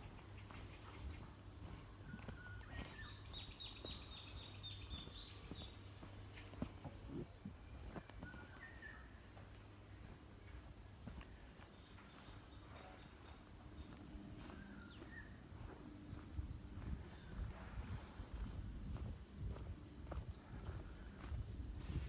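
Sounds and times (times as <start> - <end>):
insects chorus: 0.0 - 22.0
soft footfalls on trail: 0.0 - 22.0.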